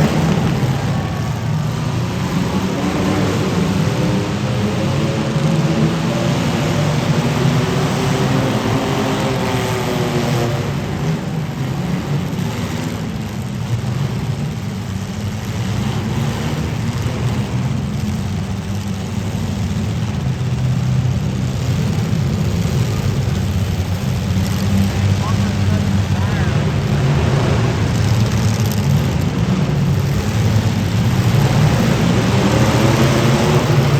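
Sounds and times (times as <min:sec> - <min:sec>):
car engines running loud: 0:00.0 - 0:33.9.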